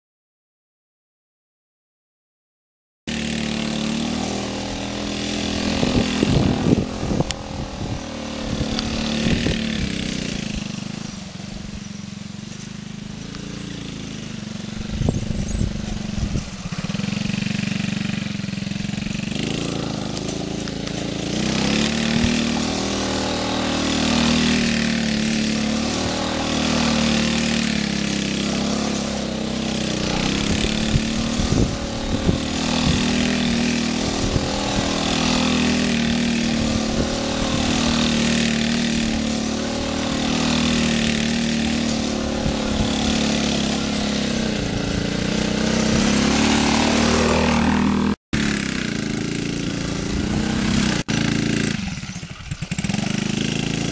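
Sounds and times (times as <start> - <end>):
mini atv engine running: 3.1 - 53.9.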